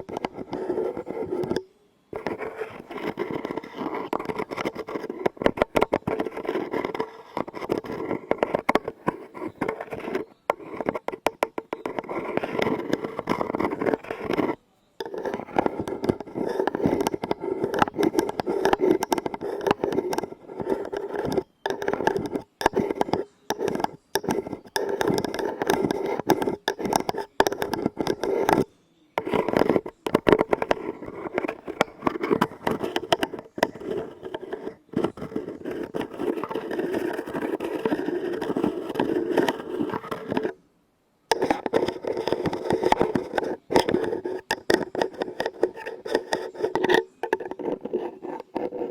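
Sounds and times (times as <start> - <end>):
fingertips tapping and scratching: 0.0 - 40.6, 41.3 - 48.9.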